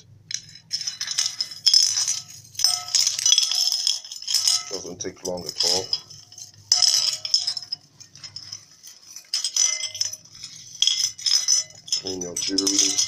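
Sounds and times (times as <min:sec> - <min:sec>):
necklace chains clinking: 0:00.0 - 0:13.0.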